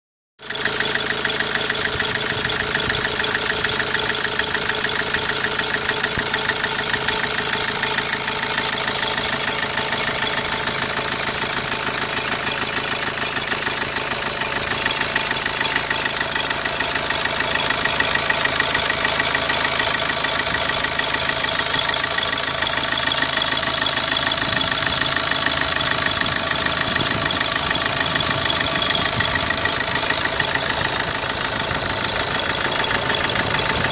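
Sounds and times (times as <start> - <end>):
diesel engine idling with clatter: 0.4 - 33.9.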